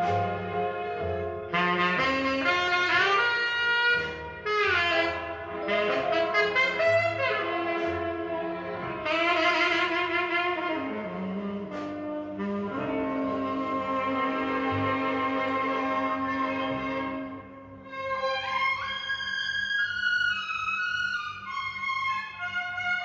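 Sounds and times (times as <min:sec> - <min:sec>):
saxophone music over bass line: 0:00.0 - 0:23.0.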